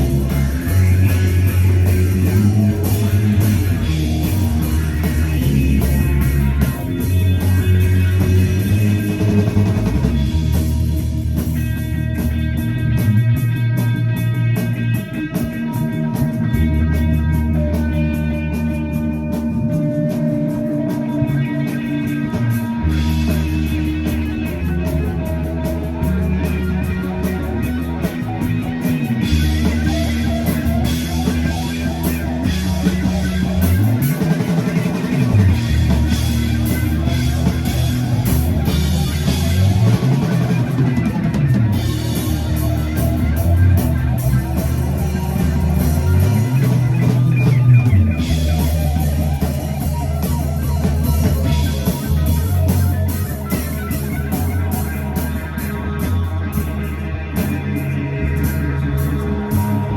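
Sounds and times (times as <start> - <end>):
bass guitar sliding: 0.0 - 59.9
drum kit: 0.0 - 59.9
electric guitar: 0.0 - 59.9.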